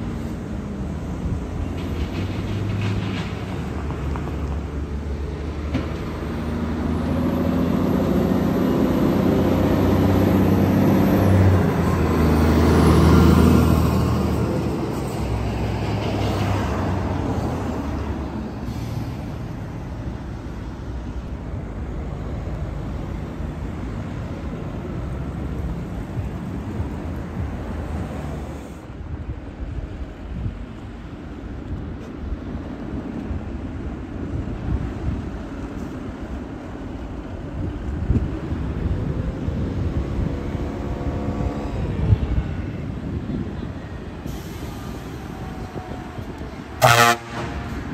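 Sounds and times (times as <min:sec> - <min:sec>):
truck diesel engine passing: 0:00.0 - 0:28.9, 0:35.2 - 0:47.9
car traffic noise: 0:00.0 - 0:47.9.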